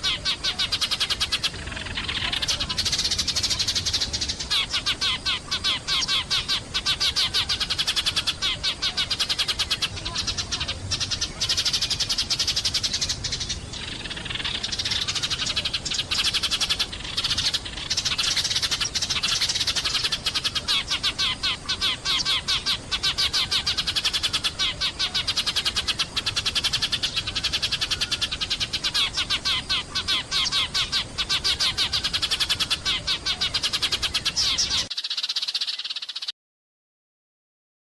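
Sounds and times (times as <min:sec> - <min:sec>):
flock of sparrows chirping: 0:00.0 - 0:36.3.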